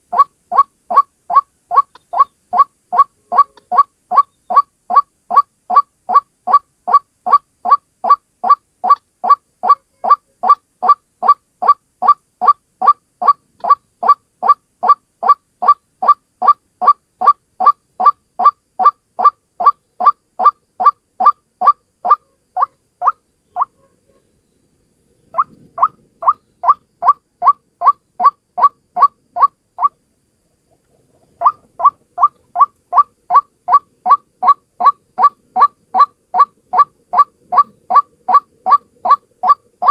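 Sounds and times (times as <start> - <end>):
waterhen calling harsh notes: 0.0 - 23.8, 25.3 - 30.0, 31.4 - 39.9.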